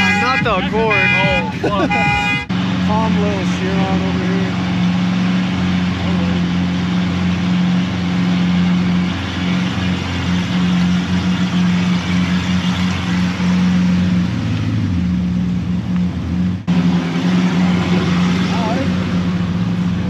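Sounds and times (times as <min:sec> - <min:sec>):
deep engine drone: 0:00.0 - 0:20.0.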